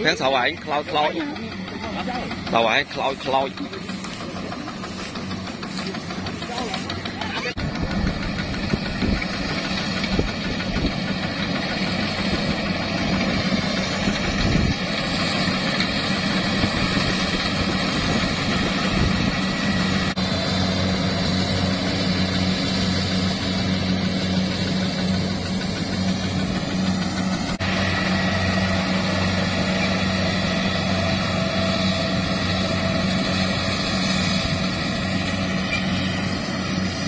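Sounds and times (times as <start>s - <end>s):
combine harvester engine drone: 0.0s - 37.0s
machinery whine: 0.0s - 37.0s.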